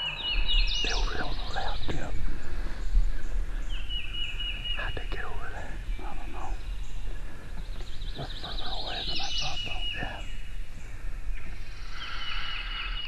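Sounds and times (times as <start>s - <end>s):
songbirds trilling: 0.0s - 13.0s.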